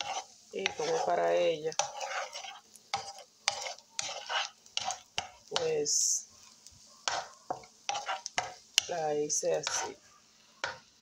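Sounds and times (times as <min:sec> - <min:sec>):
light sizzling oil: 0:00.0 - 0:11.0
spatula scraping eggs in pan: 0:00.0 - 0:11.0.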